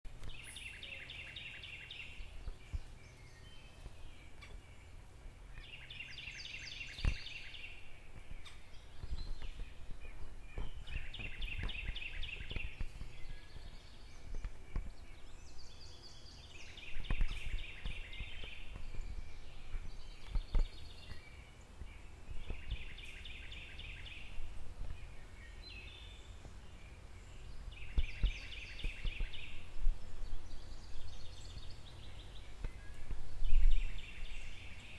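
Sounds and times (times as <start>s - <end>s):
songbird trilling: 0.2s - 24.4s, 25.0s - 34.9s.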